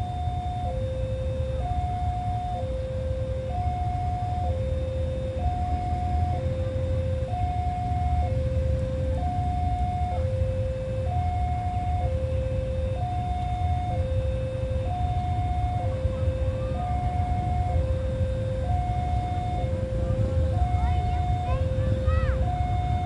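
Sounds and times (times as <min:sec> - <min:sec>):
level-crossing two-tone alarm: 0:00.0 - 0:23.0
steady low rumble: 0:00.0 - 0:23.0.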